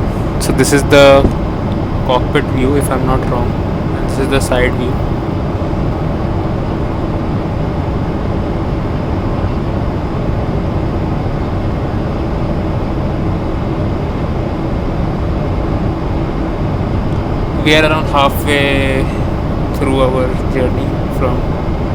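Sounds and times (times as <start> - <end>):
airplane cabin noise: 0.0 - 21.9.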